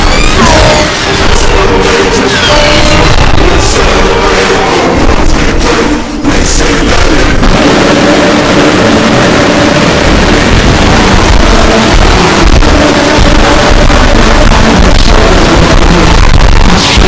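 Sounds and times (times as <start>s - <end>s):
heavily distorted loud music: 0.0s - 17.0s.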